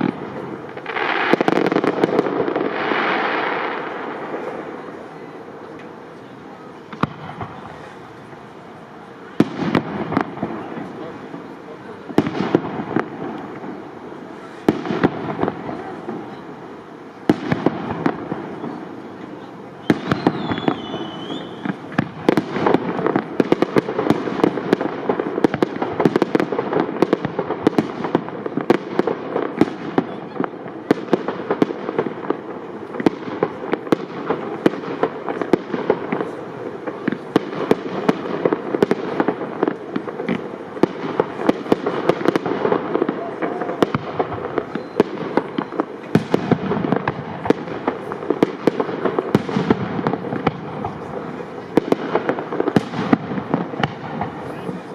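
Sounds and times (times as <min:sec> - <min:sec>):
fireworks bursting: 0:00.0 - 0:54.9
fireworks crackling: 0:00.0 - 0:54.9.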